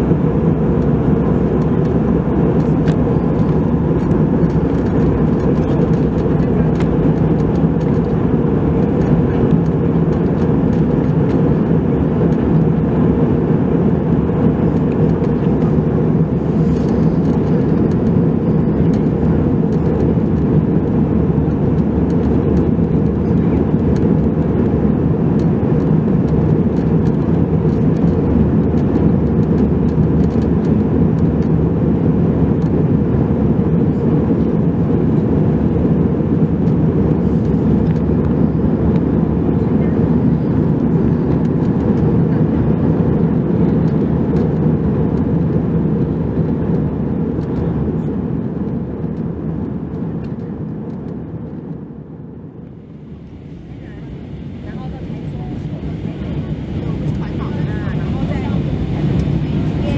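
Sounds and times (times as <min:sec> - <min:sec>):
aircraft cabin engine roar: 0:00.0 - 0:59.9.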